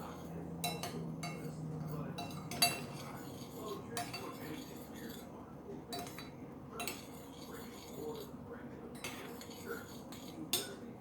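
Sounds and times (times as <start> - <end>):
utensil clinking against saucepan: 0.0 - 5.3, 5.9 - 10.8.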